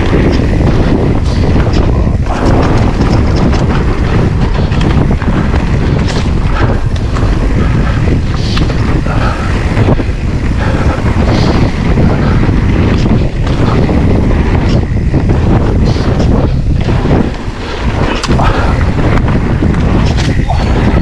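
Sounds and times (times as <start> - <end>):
bike rattles and knocks: 0.0 - 21.0
tyre noise: 0.0 - 21.0
wind buffeting microphone: 0.0 - 21.0.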